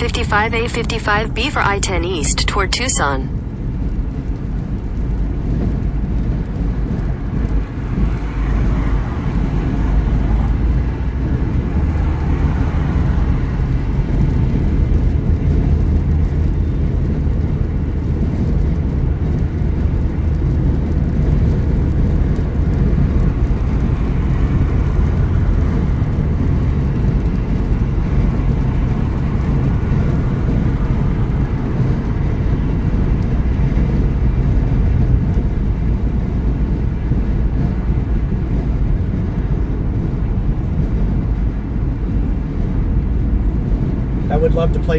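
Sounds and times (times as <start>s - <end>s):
car cabin road and engine rumble: 0.0s - 44.9s.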